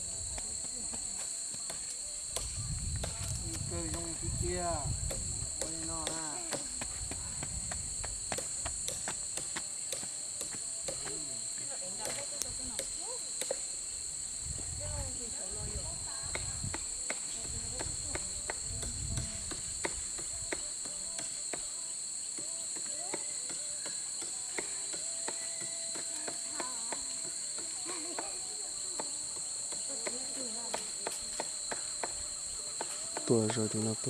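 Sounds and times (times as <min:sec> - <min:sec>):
shrill insect chorus: 0:00.0 - 0:34.0.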